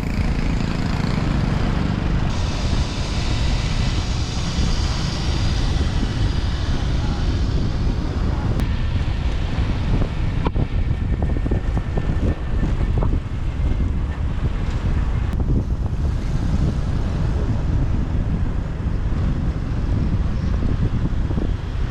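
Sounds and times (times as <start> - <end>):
motorbike engine: 0.0 - 20.5
road noise: 0.0 - 21.9
wind on microphone: 0.0 - 21.9.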